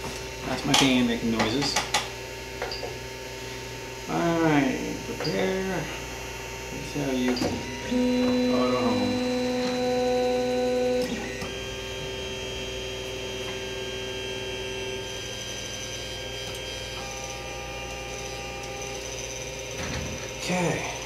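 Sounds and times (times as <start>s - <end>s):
stepper motors whining: 4.0s - 21.0s.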